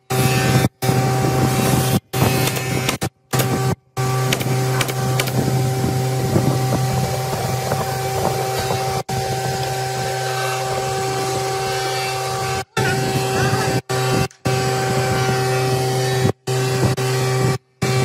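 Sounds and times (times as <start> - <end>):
air compressor motor humming: 0.0 - 18.0.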